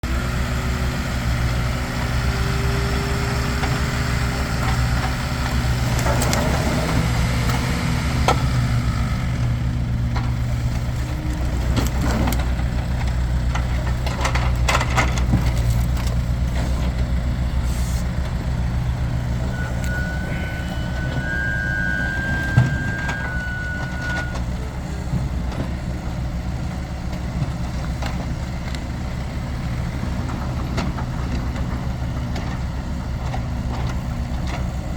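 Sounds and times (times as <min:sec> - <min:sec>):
heavy engine running: 0:00.0 - 0:34.9.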